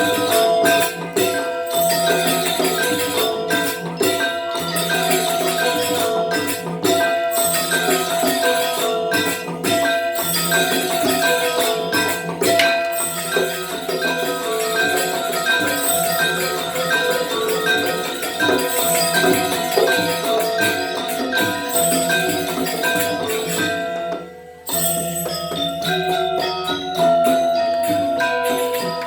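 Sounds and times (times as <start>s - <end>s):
gamelan metallophones ringing: 0.0s - 29.0s.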